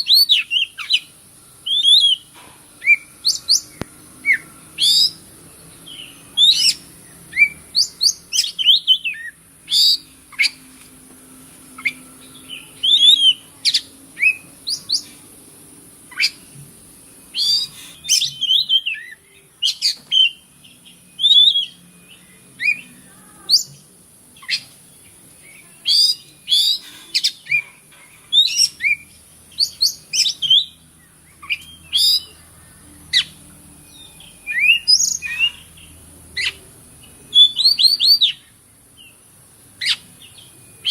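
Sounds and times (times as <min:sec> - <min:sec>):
bird singing whistles and chirps: 0:00.0 - 0:05.2, 0:05.9 - 0:10.6, 0:11.8 - 0:15.1, 0:17.3 - 0:23.8, 0:24.4 - 0:27.7, 0:28.3 - 0:39.2, 0:39.8 - 0:40.9
steady high hiss: 0:00.0 - 0:40.9.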